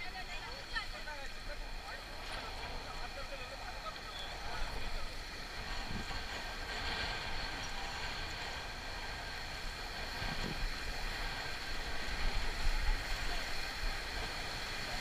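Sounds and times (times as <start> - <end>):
river rapids rushing: 0.0 - 15.0
wind rumble on microphone: 0.0 - 15.0.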